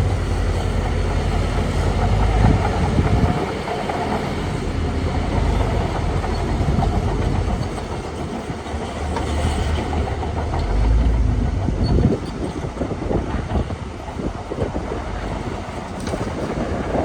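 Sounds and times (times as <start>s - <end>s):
diesel engine rumble: 0.0s - 17.0s
steel tracks clattering: 0.0s - 17.0s.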